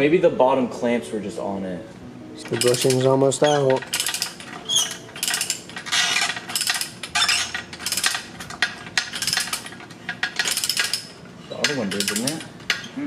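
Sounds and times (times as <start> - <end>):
hand ratchet clicking: 2.4 - 13.0.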